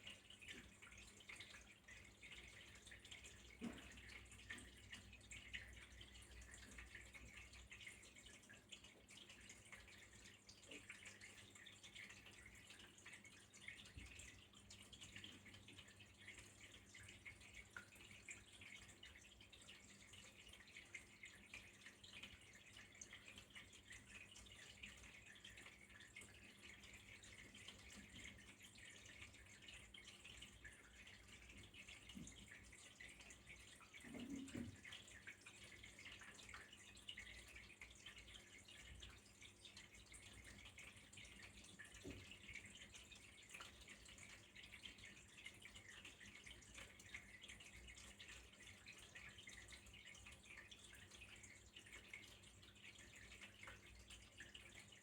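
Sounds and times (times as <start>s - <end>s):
water dripping: 0.0s - 55.0s
water trickling: 0.0s - 55.0s.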